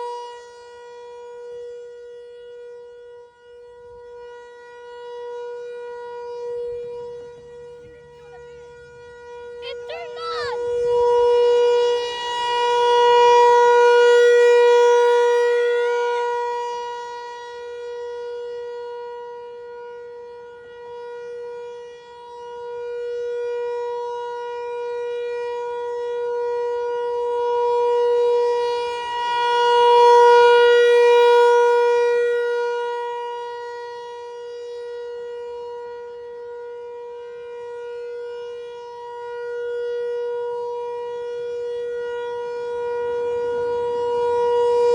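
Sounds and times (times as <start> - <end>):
warning siren steady tone: 0.0 - 44.9.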